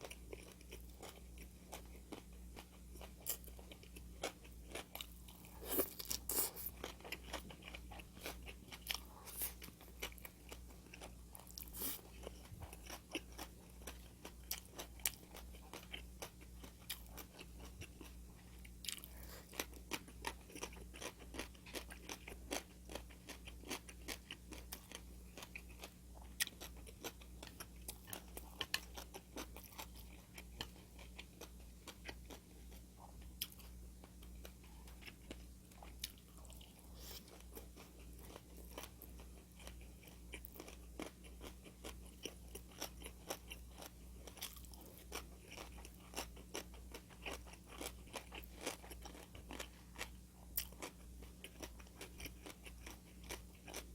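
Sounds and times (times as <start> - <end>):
chewing crunchy food: 0.0 - 53.9
low electrical hum: 0.0 - 53.9.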